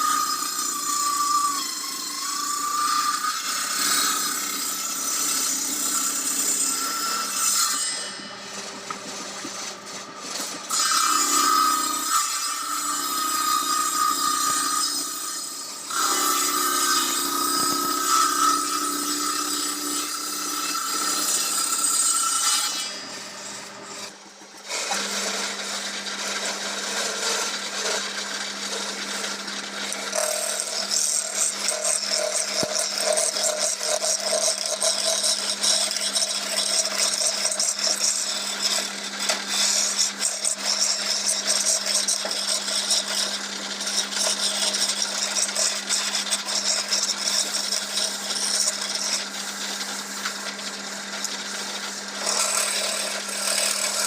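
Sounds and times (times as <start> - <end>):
lathe tool scraping wood: 0.0 - 54.0
lathe motor hum: 3.4 - 22.0, 22.7 - 37.3, 38.1 - 54.0.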